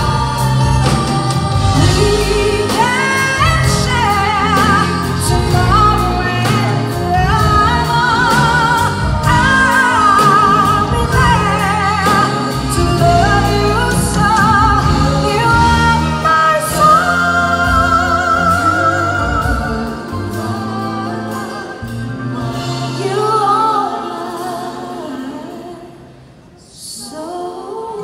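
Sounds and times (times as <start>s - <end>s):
band with drums: 0.0s - 25.3s
woman singing with vibrato: 0.0s - 28.0s.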